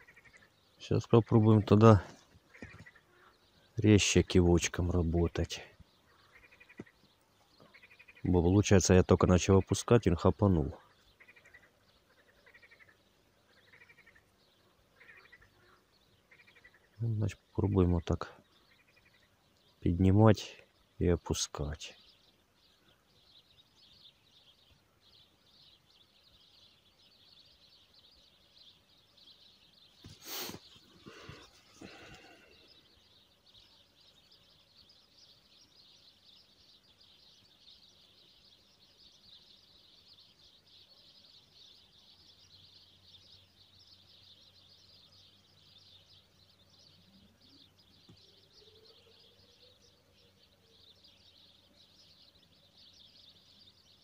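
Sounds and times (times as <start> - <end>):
faint high-pitched chirping: 0.0 - 54.0.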